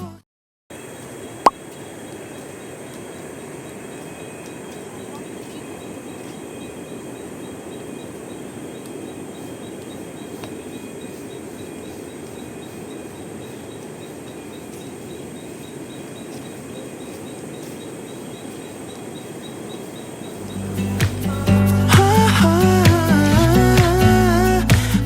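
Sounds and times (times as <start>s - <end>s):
insects chirping: 0.7s - 24.6s.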